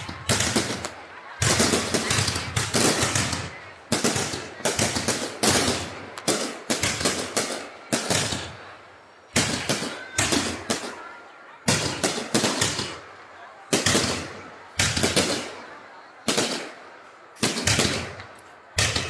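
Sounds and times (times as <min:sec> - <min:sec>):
fireworks bangs with crackle: 0:00.0 - 0:19.0.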